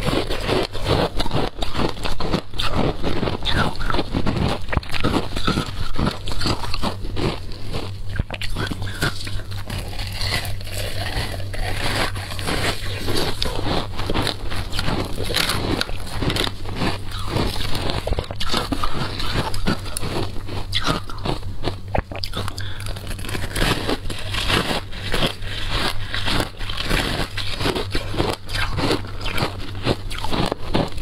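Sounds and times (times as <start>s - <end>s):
seeds crunching and clicking: 0.0s - 31.0s
steady low hum: 0.0s - 31.0s
wet chewing: 0.0s - 31.0s.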